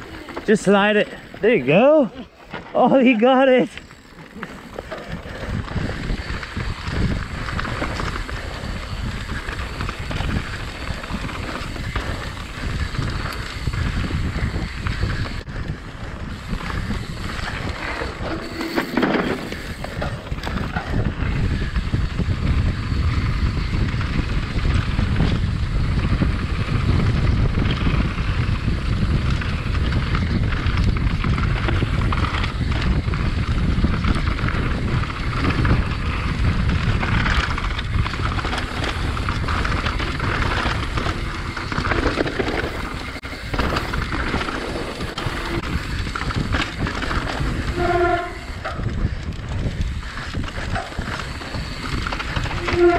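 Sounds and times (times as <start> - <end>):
mountain bike rattling on trail: 0.0 - 52.9
wind buffeting microphone: 0.0 - 52.9.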